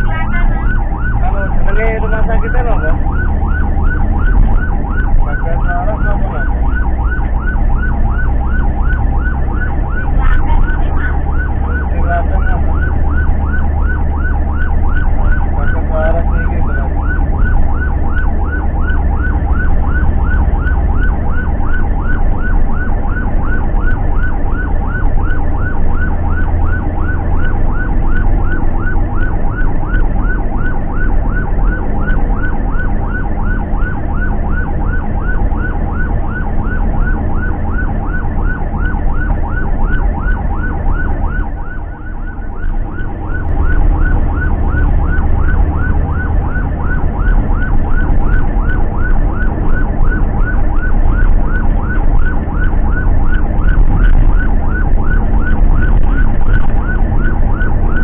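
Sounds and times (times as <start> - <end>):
ambulance siren yelping: 0.0 - 58.0
engine and road rumble: 0.0 - 58.0.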